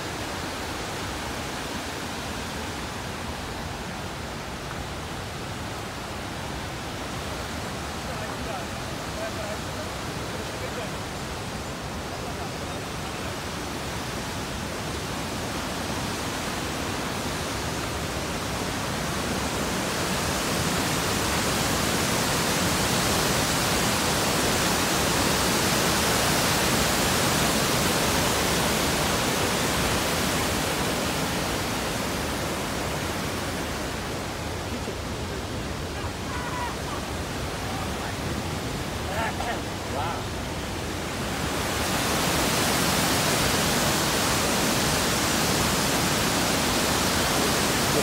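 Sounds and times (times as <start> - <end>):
waterfall rushing into gorge: 0.0 - 48.0.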